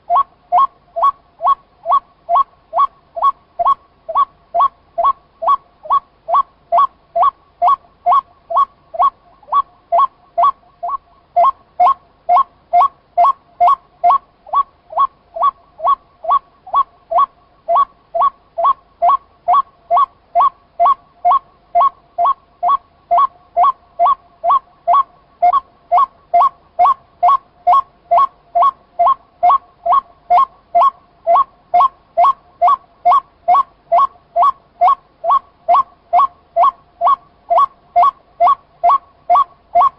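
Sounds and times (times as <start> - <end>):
waterhen two-toned call: 0.0 - 39.9.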